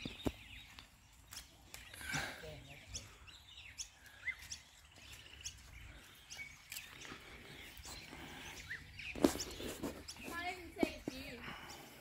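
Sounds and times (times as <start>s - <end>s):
light outdoor ambience: 0.0s - 12.0s
small birds chirping faintly: 0.0s - 12.0s.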